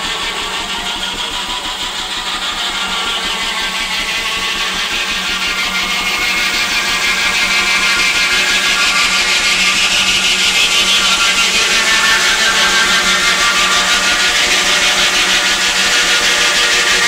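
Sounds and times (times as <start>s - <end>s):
circular saw whining: 0.0s - 17.0s.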